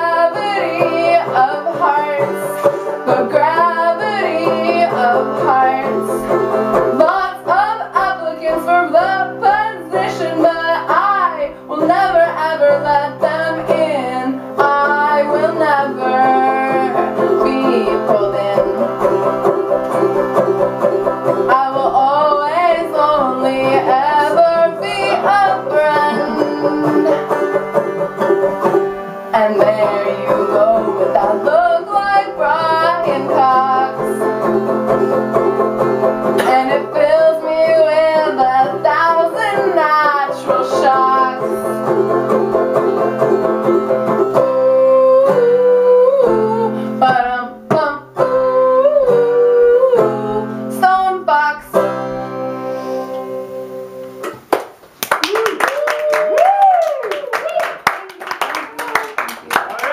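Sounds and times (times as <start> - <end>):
woman singing: 0.0 - 20.1, 21.3 - 27.6, 29.3 - 35.2, 36.3 - 53.5
banjo strumming: 0.0 - 54.6.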